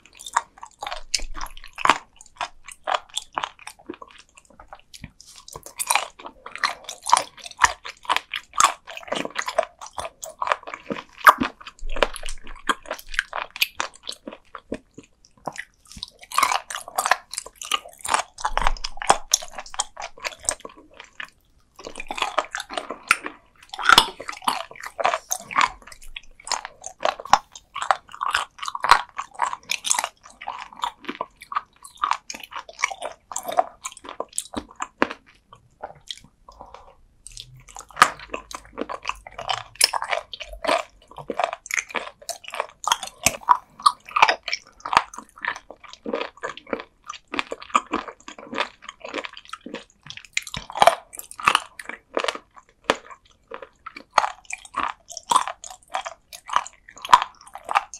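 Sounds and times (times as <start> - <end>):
crunchy wet chewing: 0.0 - 57.9.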